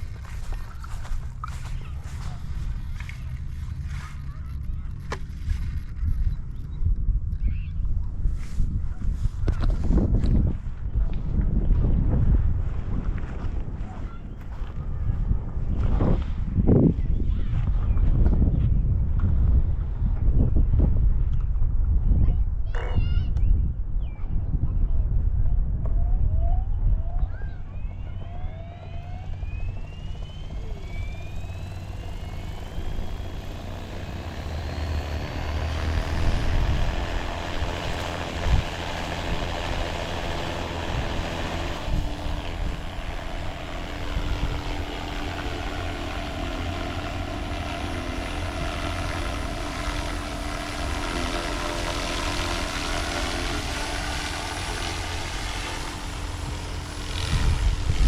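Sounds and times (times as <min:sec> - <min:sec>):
helicopter flying low: 0:00.0 - 0:23.8, 0:24.8 - 0:58.0.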